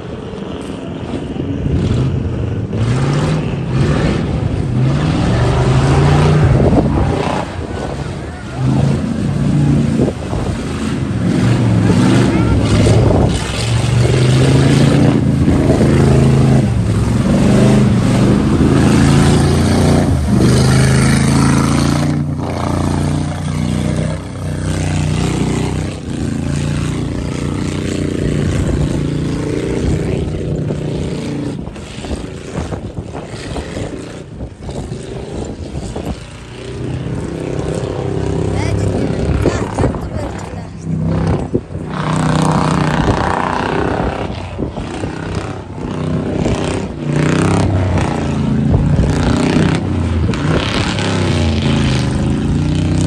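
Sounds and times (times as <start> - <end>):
truck engine running hard: 0.0 - 53.0
water and mud splashing: 0.0 - 53.0.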